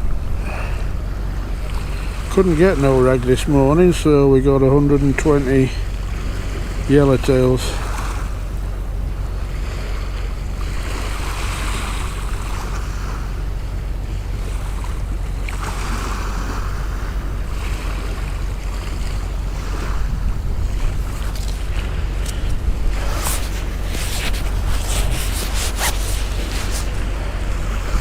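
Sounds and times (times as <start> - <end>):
sea waves breaking: 0.0 - 28.0
wind rumbling on microphone: 0.0 - 28.0.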